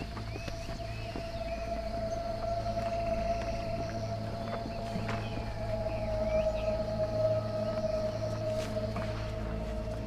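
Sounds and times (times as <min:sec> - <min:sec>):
low steady drone: 0:00.0 - 0:10.0.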